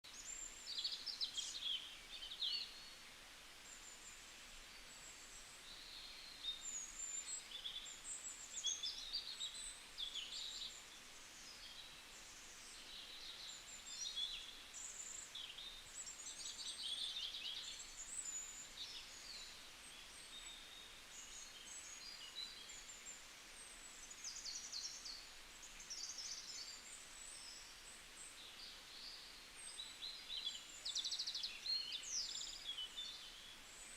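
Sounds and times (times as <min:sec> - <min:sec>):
faint steady hiss: 0:00.0 - 0:33.9
songbirds chirping and trilling: 0:00.0 - 0:33.9.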